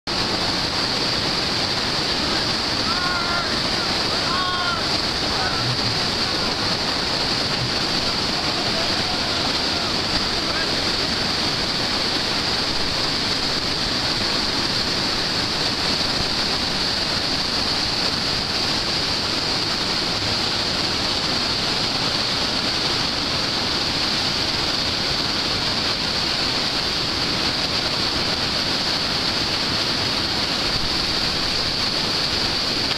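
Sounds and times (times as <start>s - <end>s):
river rapids rushing: 0.1s - 32.9s.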